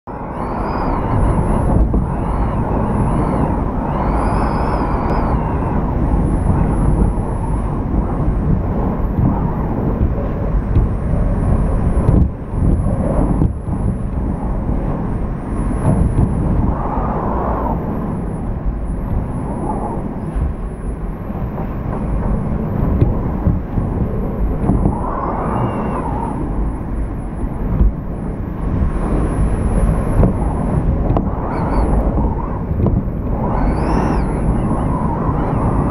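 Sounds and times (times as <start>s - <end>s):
wind and rain rushing: 0.1s - 35.9s
wind whistling: 0.1s - 35.9s.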